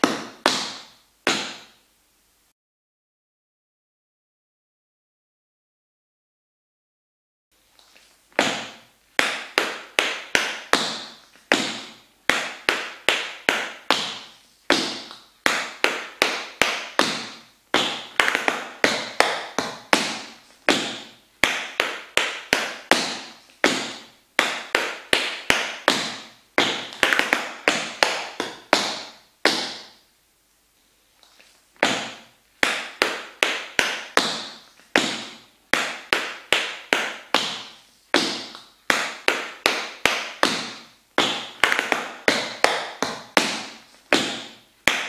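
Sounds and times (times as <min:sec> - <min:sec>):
tap shoes on wooden floor: 0:00.0 - 0:01.8, 0:07.8 - 0:30.0, 0:31.2 - 0:45.0.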